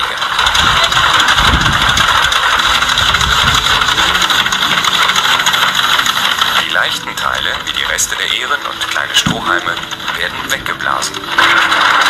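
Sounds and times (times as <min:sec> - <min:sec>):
grain pouring: 0:00.0 - 0:12.0
hand-cranked winnowing mill running: 0:00.0 - 0:12.0.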